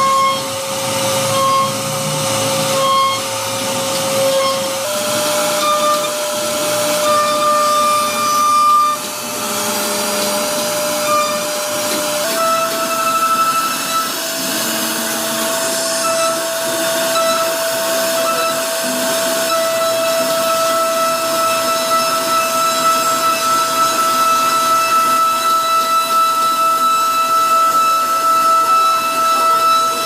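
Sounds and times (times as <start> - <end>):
bit cutting wood: 0.0 - 30.0
router spindle whine: 0.0 - 30.0.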